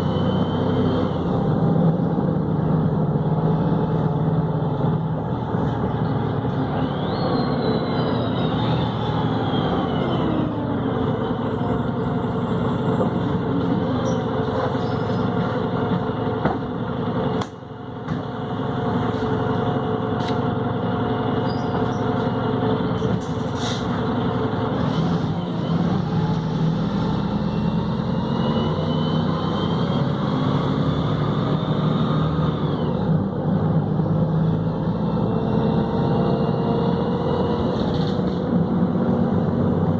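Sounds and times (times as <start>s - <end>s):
bus engine with gearbox whine: 0.0s - 39.9s.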